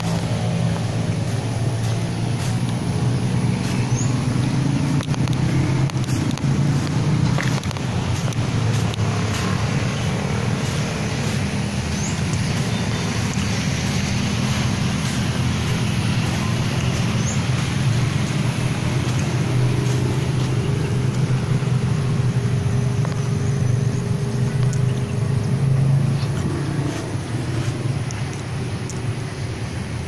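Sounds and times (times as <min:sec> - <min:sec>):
faint engine hum: 0:00.0 - 0:30.0
road traffic rumble: 0:00.0 - 0:30.0.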